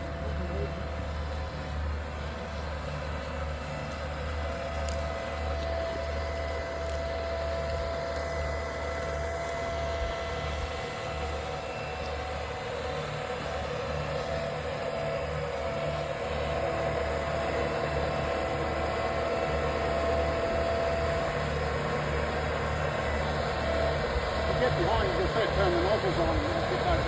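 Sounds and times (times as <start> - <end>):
steady whine: 0.0 - 27.0
tractor engine rumble: 0.0 - 27.0.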